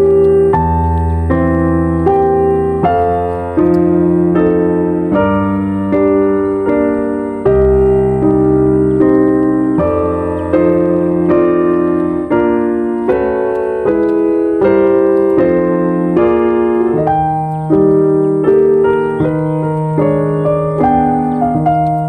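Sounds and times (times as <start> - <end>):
piano chords: 0.0 - 22.0.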